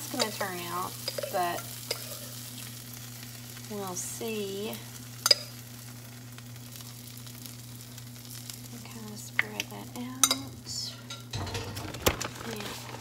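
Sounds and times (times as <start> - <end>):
batter sizzling in waffle maker: 0.0 - 13.0.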